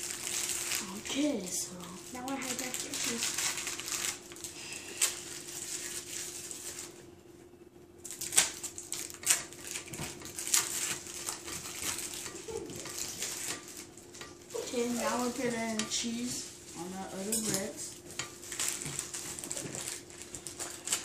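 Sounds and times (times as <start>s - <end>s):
plastic wrapper crinkling: 0.0s - 7.0s, 8.0s - 21.0s
faint steady hum: 0.0s - 21.0s.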